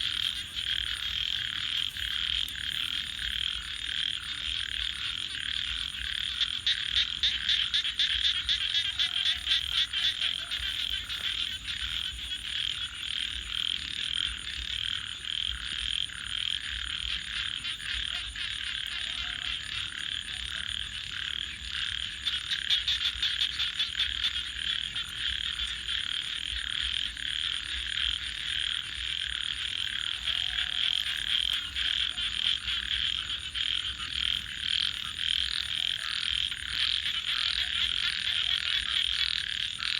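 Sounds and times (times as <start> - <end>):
fast pulsed frog trills: 0.0 - 39.9
frogs calling: 0.0 - 39.9.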